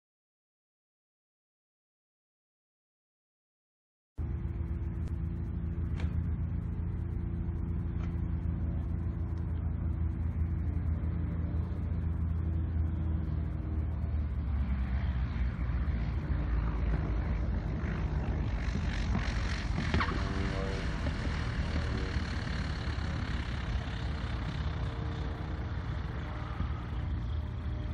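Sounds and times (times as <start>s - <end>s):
propeller airplane engine drone: 4.2s - 27.9s.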